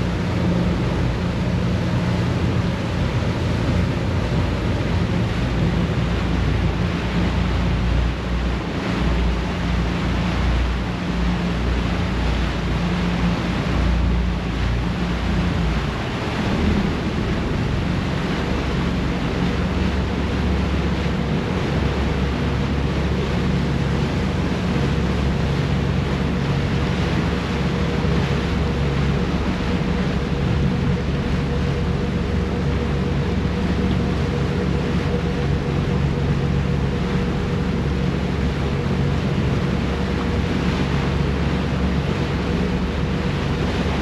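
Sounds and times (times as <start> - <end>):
faint higher engine tone: 0.0 - 44.0
ferry engine humming: 0.0 - 44.0
propeller wash churning: 0.0 - 44.0
wind on microphone: 0.0 - 44.0.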